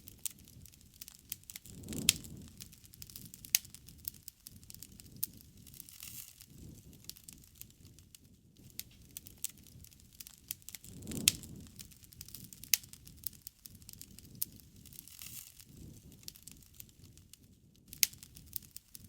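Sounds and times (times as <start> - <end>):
low rush of flame: 0.0 - 19.0
wood fire crackling and popping: 0.0 - 19.0.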